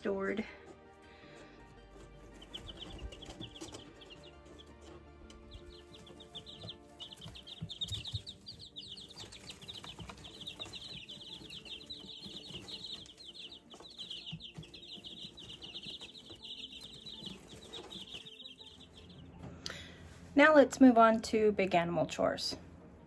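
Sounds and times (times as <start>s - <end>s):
chicks peeping: 0.6s - 20.0s.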